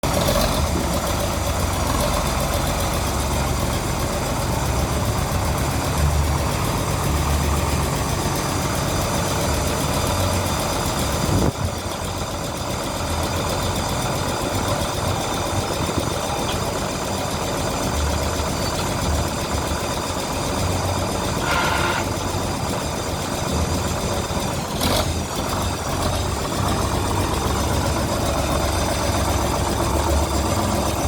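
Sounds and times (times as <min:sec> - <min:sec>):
tractor diesel engine rumbling: 0:00.0 - 0:31.0.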